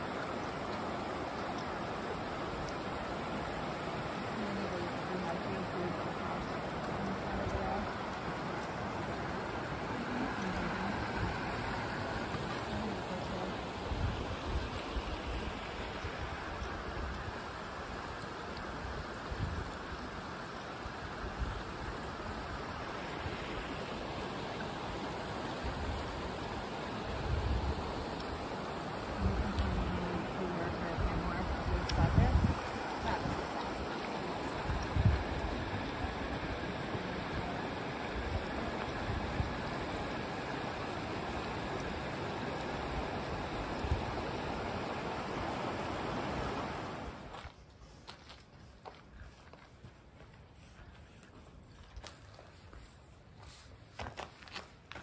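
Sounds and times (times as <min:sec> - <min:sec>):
water rushing over rocks: 0:00.0 - 0:47.5.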